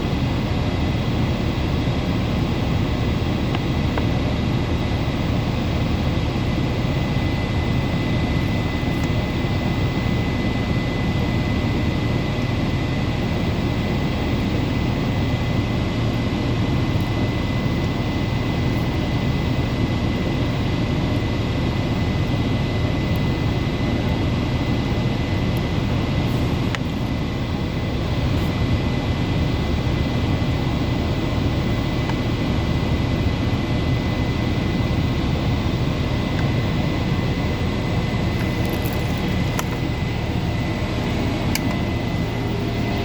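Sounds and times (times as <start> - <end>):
machine drone with high whine: 0.0 - 43.0.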